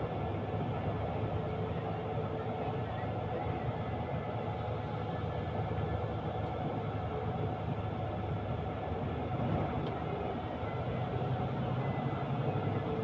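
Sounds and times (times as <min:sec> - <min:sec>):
engine and road noise in vehicle: 0:00.0 - 0:13.0.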